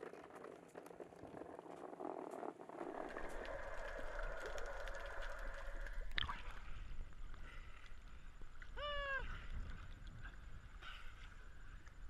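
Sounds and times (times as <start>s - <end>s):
sea water rumble and gurgling: 0.0s - 12.0s.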